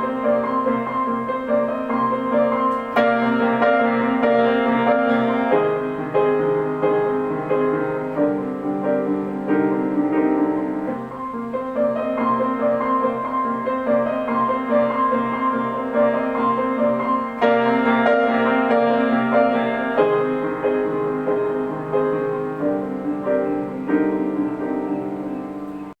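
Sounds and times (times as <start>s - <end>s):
grand piano playing: 0.0s - 26.0s.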